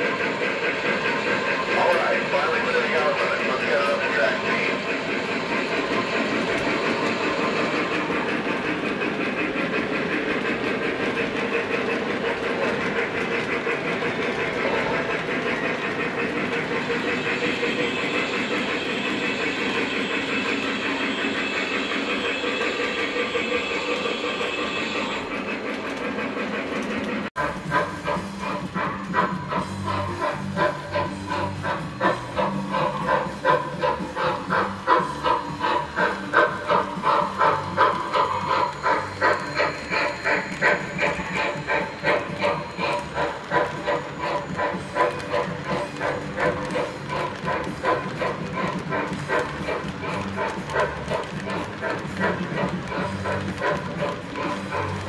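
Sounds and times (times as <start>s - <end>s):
model train wheels clattering: 0.0s - 55.0s.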